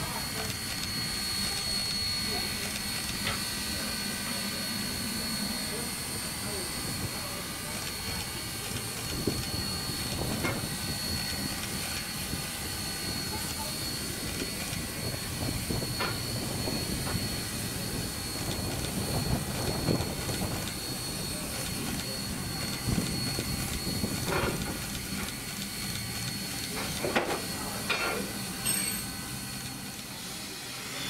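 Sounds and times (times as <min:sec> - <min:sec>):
steam hissing: 0:00.0 - 0:31.0
thin high whine: 0:00.0 - 0:31.0.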